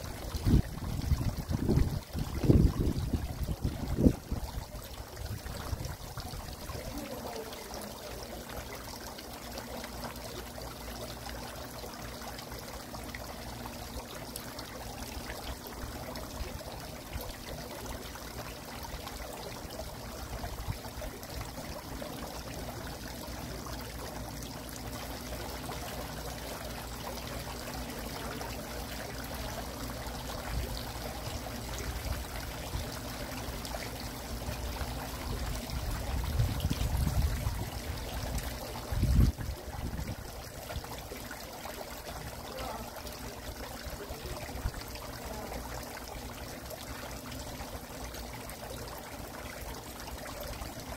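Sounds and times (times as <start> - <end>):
fountain water pouring and trickling: 0.0 - 50.9.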